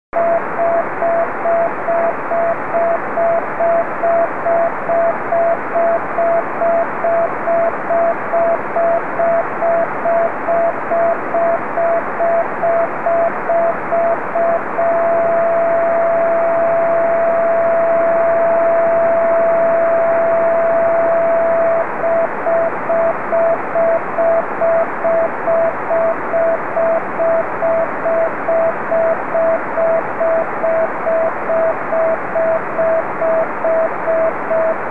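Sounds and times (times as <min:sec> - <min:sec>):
morse beacon beat tone: 0:00.2 - 0:34.9.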